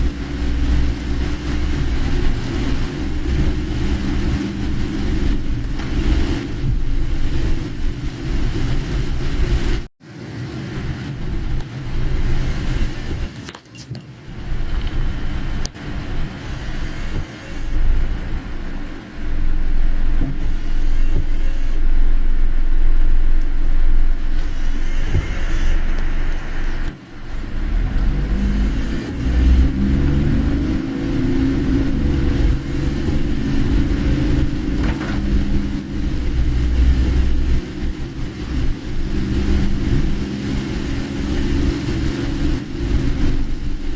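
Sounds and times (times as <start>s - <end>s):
car engine and tyre rumble: 0.0s - 43.9s
rain and road spray hiss: 0.0s - 43.9s.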